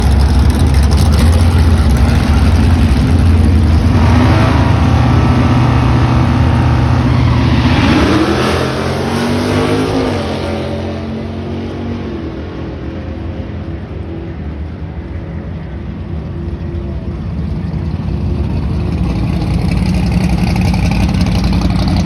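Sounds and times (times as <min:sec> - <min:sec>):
race car engine running rough: 0:00.0 - 0:22.0.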